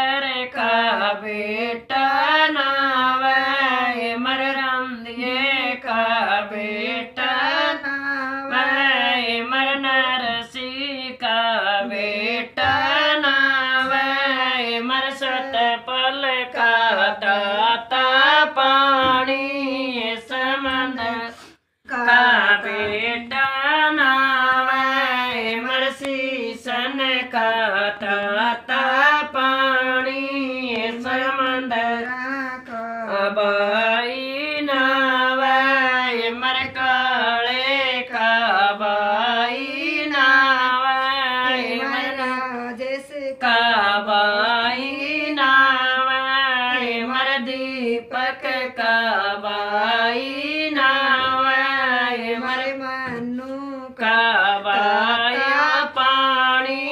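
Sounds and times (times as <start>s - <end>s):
woman singing unaccompanied: 0.0s - 56.9s.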